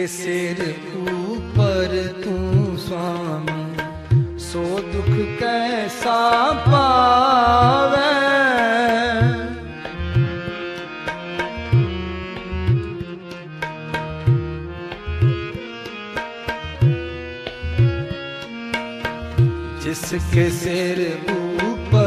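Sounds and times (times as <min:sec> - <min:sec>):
tabla playing: 0:00.0 - 0:22.0.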